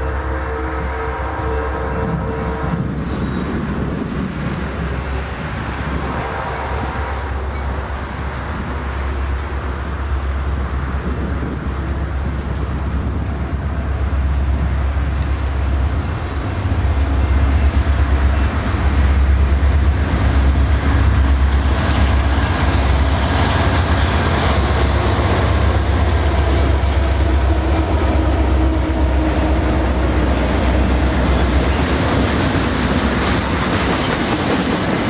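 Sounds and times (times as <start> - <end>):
locomotive engine rumble: 2.0 - 35.0
train wheels on rails: 2.8 - 35.0.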